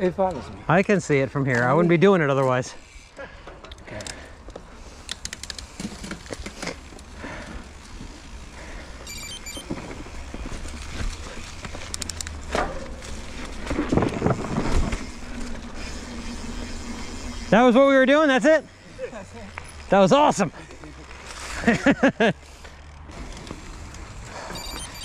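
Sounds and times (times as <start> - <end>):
bike clicking and rattling: 0.0 - 25.0
bike tyres on dirt trail: 0.0 - 25.0.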